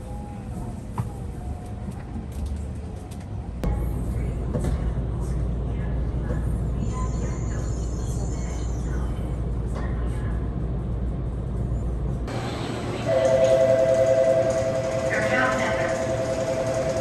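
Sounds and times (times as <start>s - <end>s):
train car low rumble: 0.0s - 17.0s.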